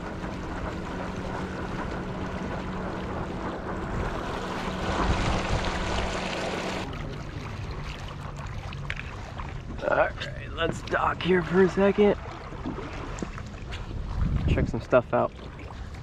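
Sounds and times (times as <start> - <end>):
water rushing along hull: 0.0 - 16.0.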